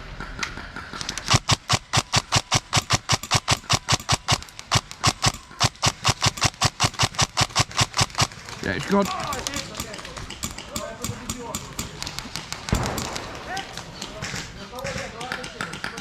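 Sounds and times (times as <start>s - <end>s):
airsoft rifle firing shots: 1.0s - 16.0s.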